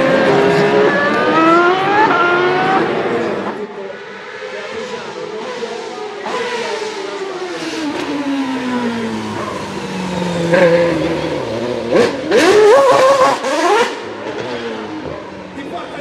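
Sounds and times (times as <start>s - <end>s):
racing car engine revving: 0.0s - 16.0s.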